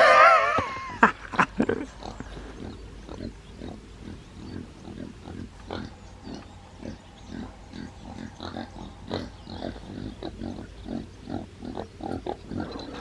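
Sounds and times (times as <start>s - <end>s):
pig grunting: 1.3s - 13.0s.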